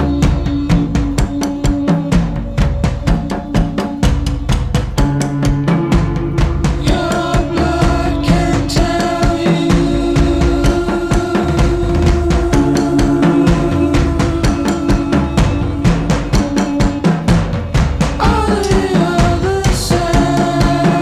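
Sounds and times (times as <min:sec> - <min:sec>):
fast drum beat: 0:00.0 - 0:21.0
sustained pitched tones: 0:00.0 - 0:21.0.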